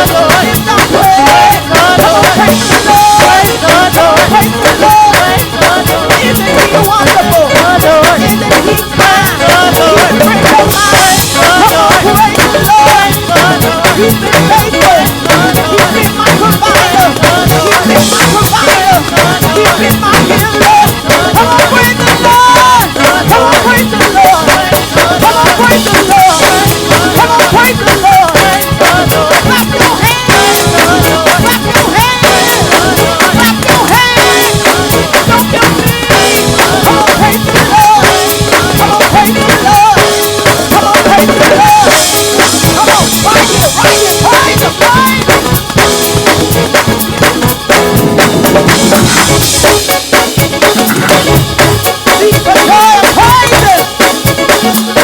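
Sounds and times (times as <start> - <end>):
drum kit snare and cymbals: 0.0 - 55.0
live gospel band playing: 0.0 - 55.0
voices singing: 0.0 - 55.0.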